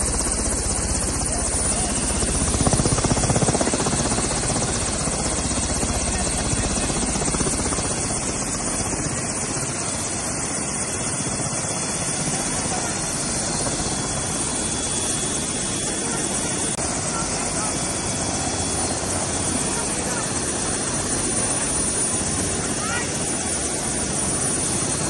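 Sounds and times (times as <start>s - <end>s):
helicopter rotor whir and chop: 0.0s - 25.0s.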